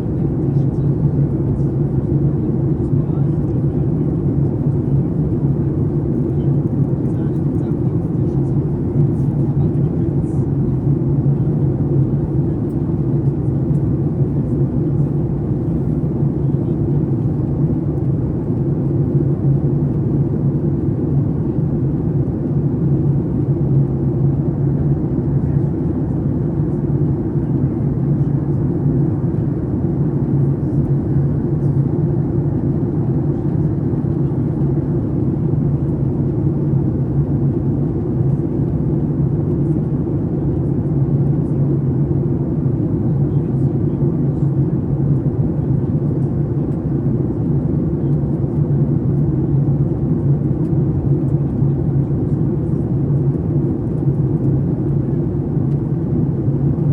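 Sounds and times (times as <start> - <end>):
airplane cabin drone: 0.0 - 56.9.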